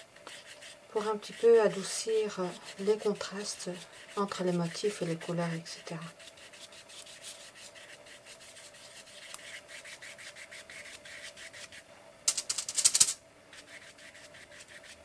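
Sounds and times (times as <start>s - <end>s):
brush scrubbing in foil tray: 0.0s - 11.8s, 12.5s - 15.0s
paintbrush scratchy strokes on paper: 0.0s - 11.9s, 12.5s - 15.0s.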